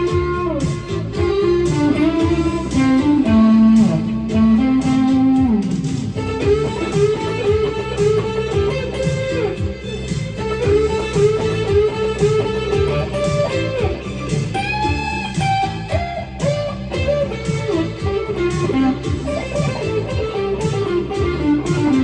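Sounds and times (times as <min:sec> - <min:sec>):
backing track with steady beat: 0:00.0 - 0:22.0
overdriven electric guitar lead: 0:00.0 - 0:22.0.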